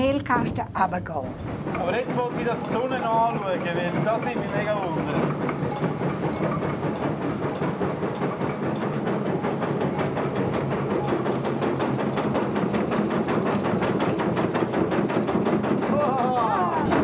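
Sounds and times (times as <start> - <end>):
mill sieve clattering: 1.4 - 17.0.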